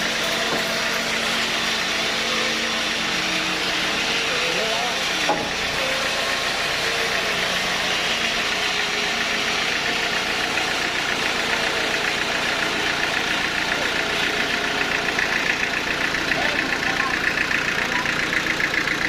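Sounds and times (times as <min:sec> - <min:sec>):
fast mechanical chatter: 0:00.0 - 0:19.0
sawmill machinery running: 0:00.0 - 0:19.0.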